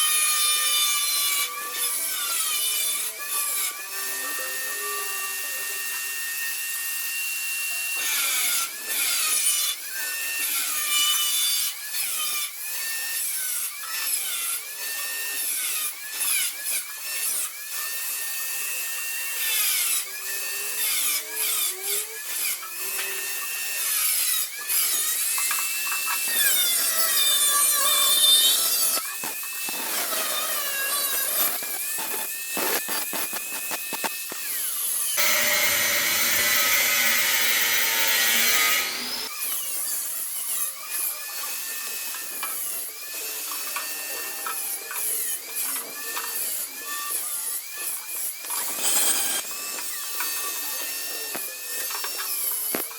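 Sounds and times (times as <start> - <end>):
electric grinder on sheet metal: 0.0 - 52.9.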